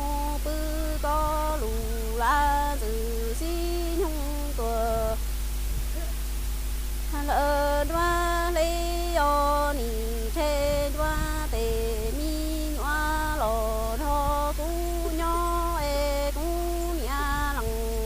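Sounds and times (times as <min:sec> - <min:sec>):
woman singing unaccompanied: 0:00.0 - 0:05.3, 0:07.1 - 0:18.0.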